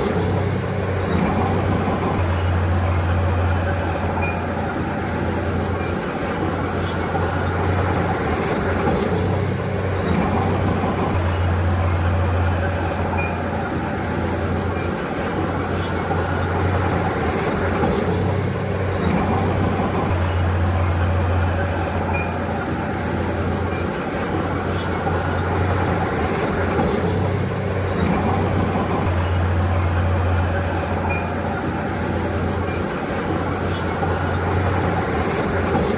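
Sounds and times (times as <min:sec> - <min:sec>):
heavy diesel machinery running: 0:00.0 - 0:35.9.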